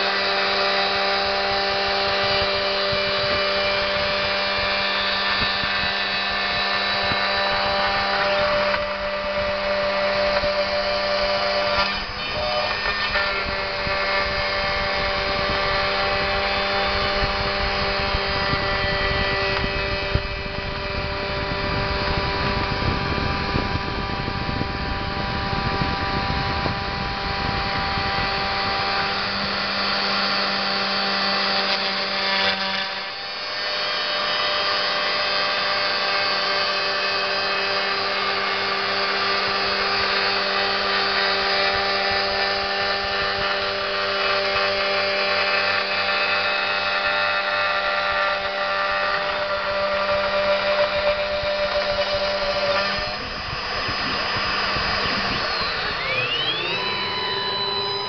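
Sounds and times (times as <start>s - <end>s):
cnc router milling metal: 0.0s - 58.0s.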